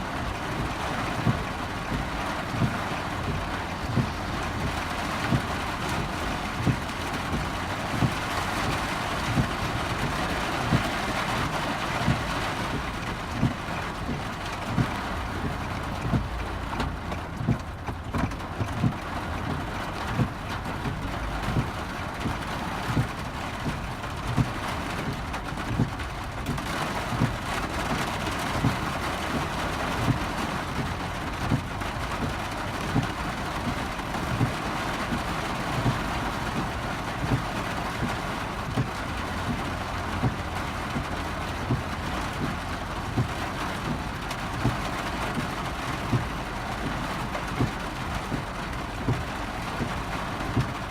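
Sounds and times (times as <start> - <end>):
dull low thumps: 0.0 - 50.9
heavy rain on car roof: 0.0 - 50.9.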